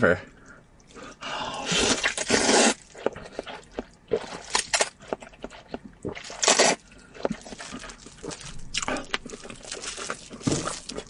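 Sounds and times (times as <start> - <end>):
wet chewing: 0.4 - 11.0
loud wet noodle slurping: 1.5 - 11.0.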